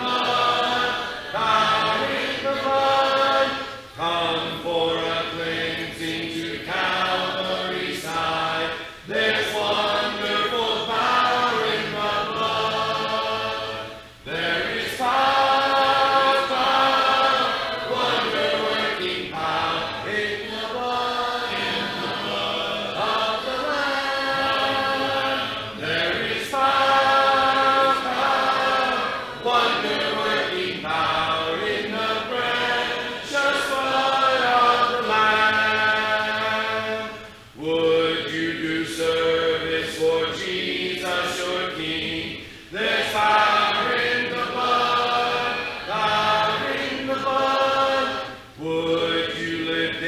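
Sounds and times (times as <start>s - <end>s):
congregation singing a hymn: 0.0s - 50.0s.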